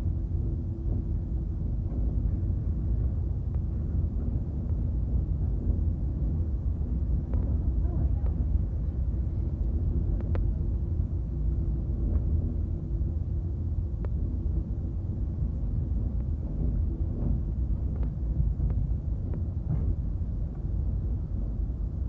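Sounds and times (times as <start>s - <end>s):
cable car cabin rumble: 0.0s - 22.0s.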